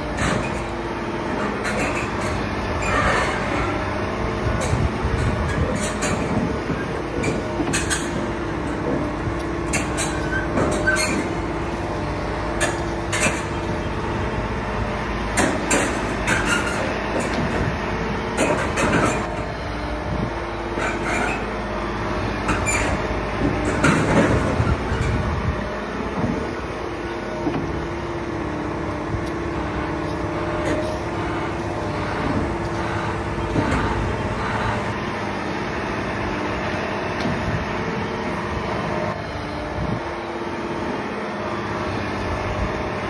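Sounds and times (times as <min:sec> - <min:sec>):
diesel engine humming: 0:00.0 - 0:43.0.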